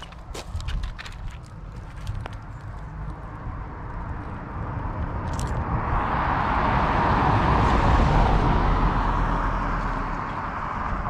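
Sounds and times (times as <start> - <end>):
car tyre and road noise: 0.0 - 11.0.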